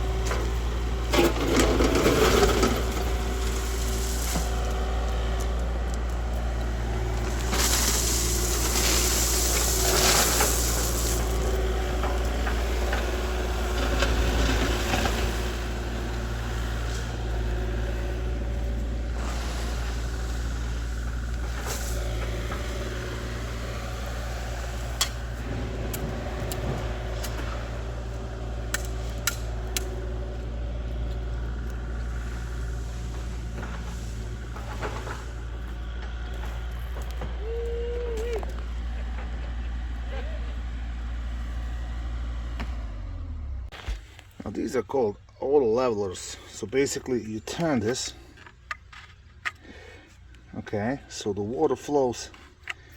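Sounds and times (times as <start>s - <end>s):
engine running steadily: 0.0s - 52.9s.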